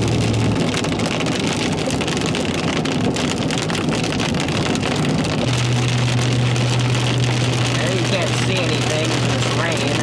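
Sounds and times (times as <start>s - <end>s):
car road noise: 0.0s - 10.0s
heavy rain on car roof: 0.0s - 10.0s.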